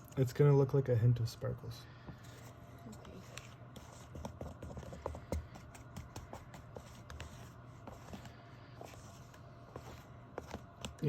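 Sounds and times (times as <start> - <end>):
low steady hum: 0.0 - 11.0
stirrer scraping paint container: 2.1 - 11.0.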